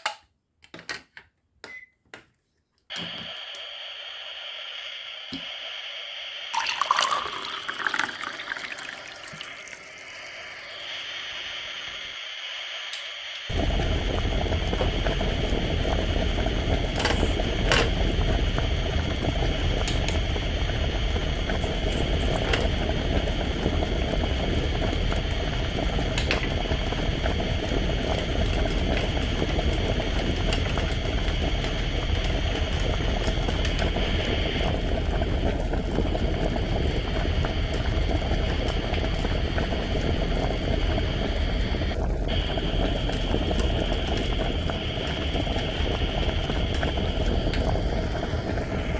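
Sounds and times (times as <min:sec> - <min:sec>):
bubbling boiling sound: 0:02.9 - 0:12.9, 0:13.5 - 0:48.9.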